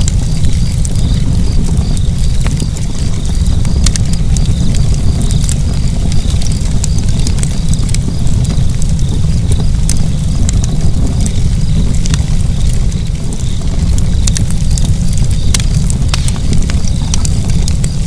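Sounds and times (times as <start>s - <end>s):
fire low rumble: 0.0s - 18.0s
wood fire crackling and popping: 0.0s - 18.0s.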